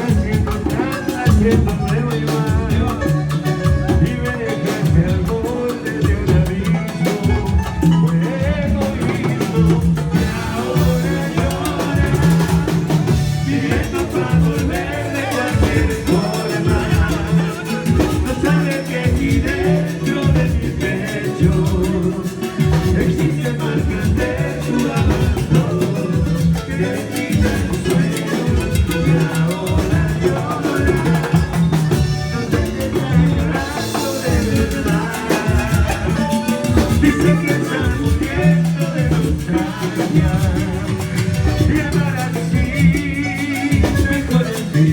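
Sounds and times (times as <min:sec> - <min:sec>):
drum kit and percussion beat: 0:00.0 - 0:44.9
live band playing latin dance song: 0:00.0 - 0:44.9.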